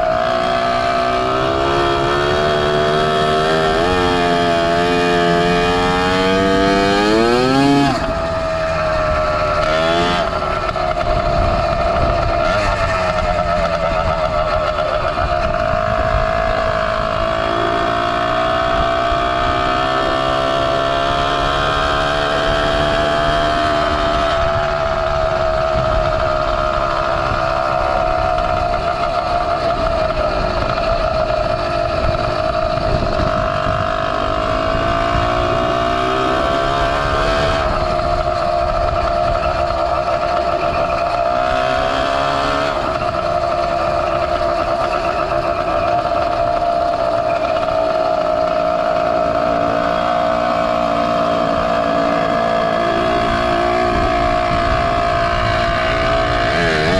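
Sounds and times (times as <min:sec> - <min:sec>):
small two-stroke engine buzzing: 0:00.0 - 0:56.9.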